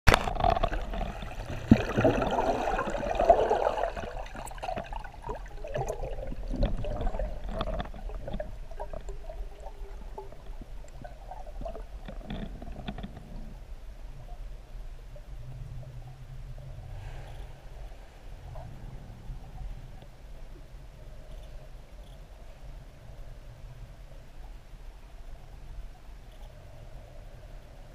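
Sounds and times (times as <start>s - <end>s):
underwater sloshing and bubbling: 0.1s - 27.9s.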